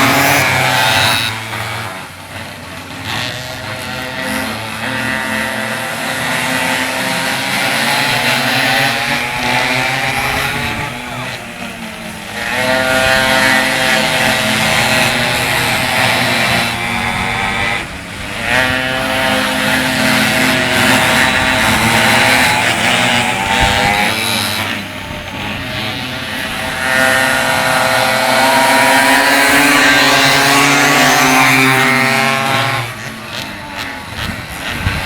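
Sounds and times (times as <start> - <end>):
small two-stroke engines racing: 0.0 - 35.0.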